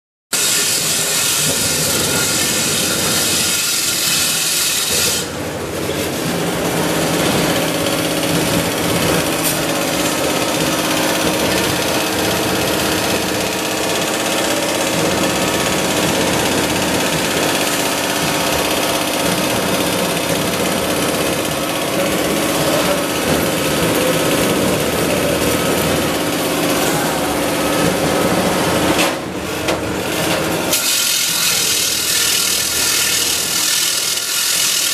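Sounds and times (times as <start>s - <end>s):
factory machines droning: 0.4s - 34.9s.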